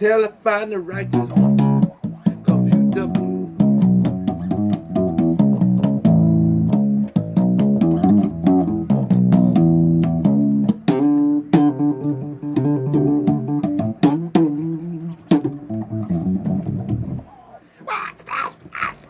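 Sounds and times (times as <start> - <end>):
bass guitar riff: 0.8 - 19.0.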